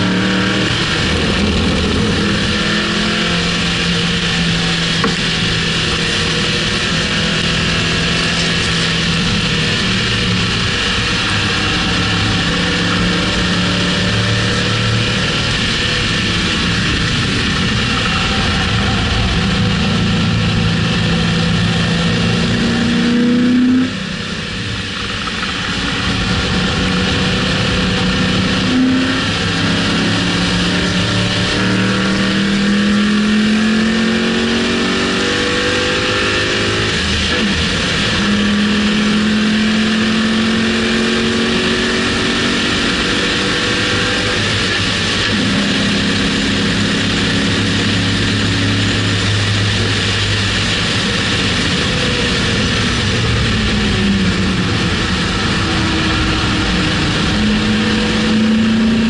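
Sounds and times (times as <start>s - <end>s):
car engine at full throttle: 0.0s - 59.0s
wind noise: 0.0s - 59.0s.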